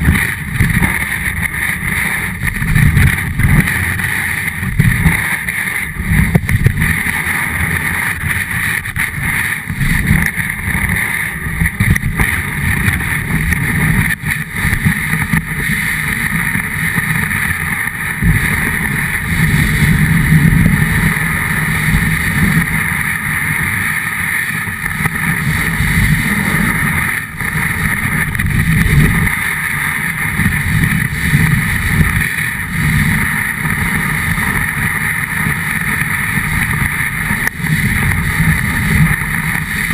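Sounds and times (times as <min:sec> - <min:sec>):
snowboard scraping over snow: 0:00.0 - 0:39.9
wind noise on microphone: 0:00.0 - 0:39.9.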